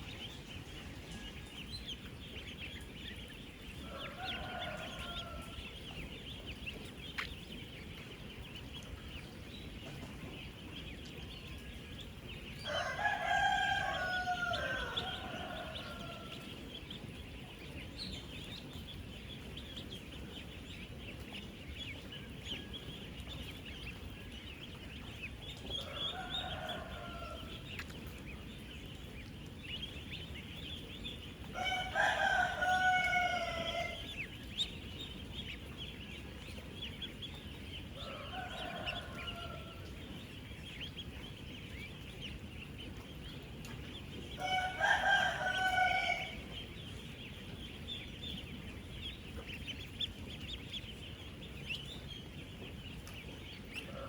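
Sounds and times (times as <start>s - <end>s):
ducklings peeping: 0.0s - 54.0s.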